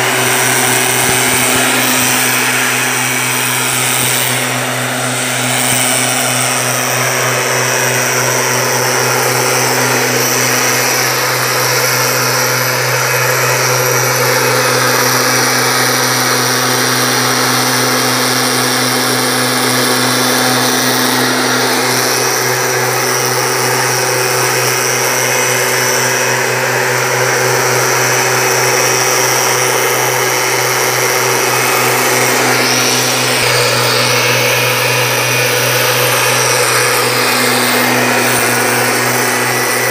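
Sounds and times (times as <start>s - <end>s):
air rushing from blower tube: 0.0s - 39.9s
two-stroke engine running: 0.0s - 39.9s.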